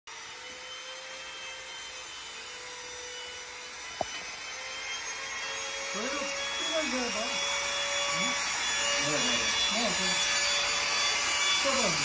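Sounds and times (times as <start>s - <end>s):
trim router motor hum: 0.1s - 12.0s.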